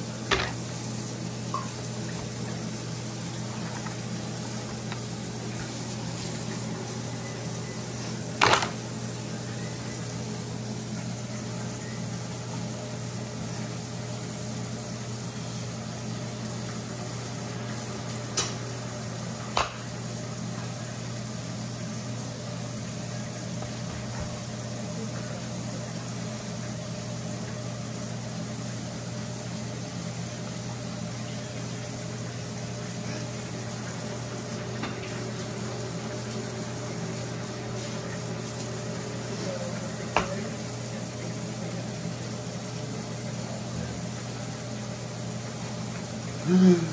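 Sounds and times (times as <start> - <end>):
fan humming: 0.0 - 46.9.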